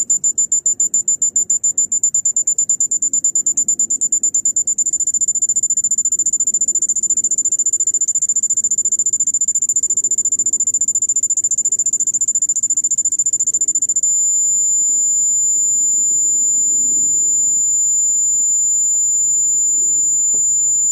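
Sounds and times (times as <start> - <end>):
high-pitched warning buzzer beeping: 0.0 - 20.9.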